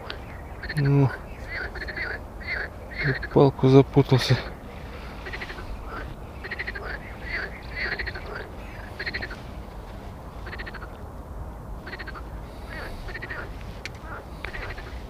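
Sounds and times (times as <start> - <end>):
frogs rattling calls: 0.0 - 9.5, 10.4 - 11.1, 11.8 - 15.0
steady low rumble: 0.0 - 15.0.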